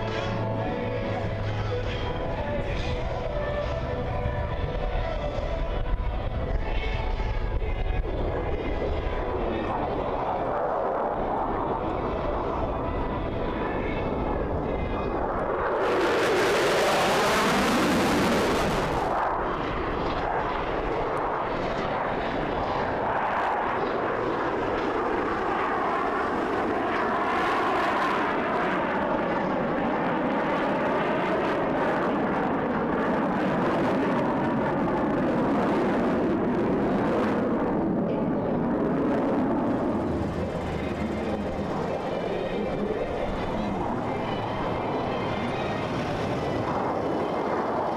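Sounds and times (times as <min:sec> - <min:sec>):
jet fighters flying past: 0:00.0 - 0:47.9.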